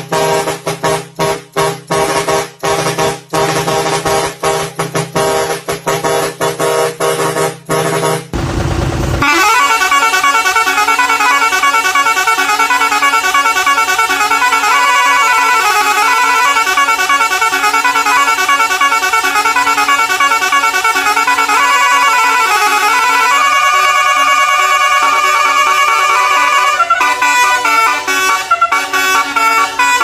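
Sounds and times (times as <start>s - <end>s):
musical truck horn melody: 0.0s - 8.4s, 9.2s - 30.0s.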